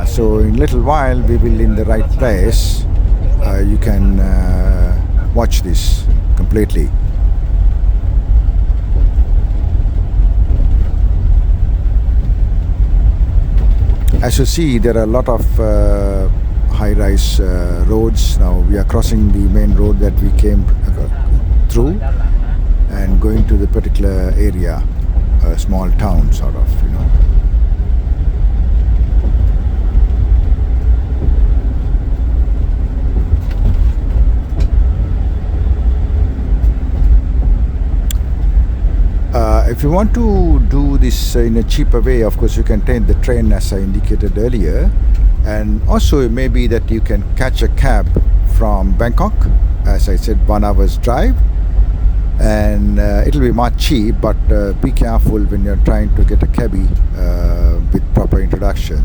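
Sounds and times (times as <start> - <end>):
road noise: 0.0 - 59.0
van engine rumble: 0.0 - 59.0.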